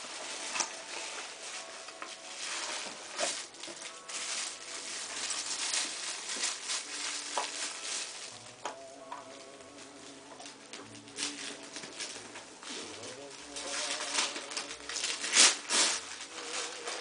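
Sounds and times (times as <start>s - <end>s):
wrapping paper crinkling: 0.0s - 17.0s.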